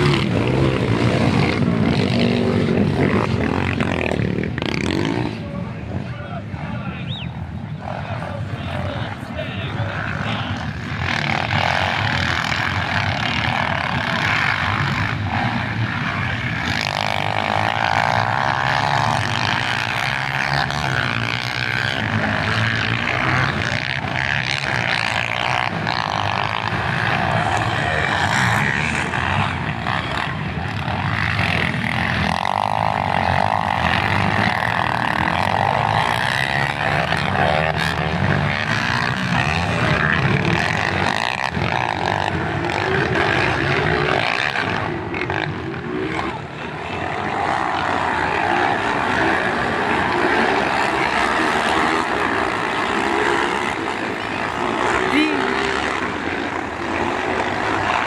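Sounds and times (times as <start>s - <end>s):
motocross engines revving: 0.0s - 58.0s.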